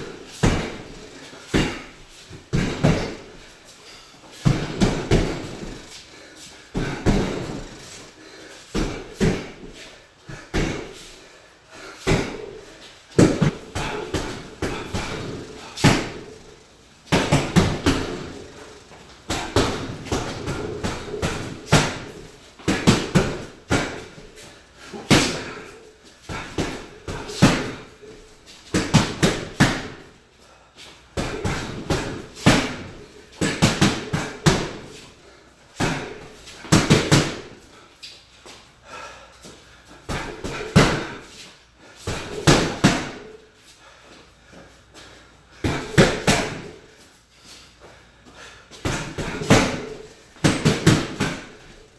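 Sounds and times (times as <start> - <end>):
boxing gloves punching heavy bag: 0.0 - 3.5, 4.3 - 11.1, 11.8 - 30.2, 31.2 - 37.6, 40.0 - 41.4, 42.0 - 43.4, 45.6 - 47.0, 48.7 - 51.8.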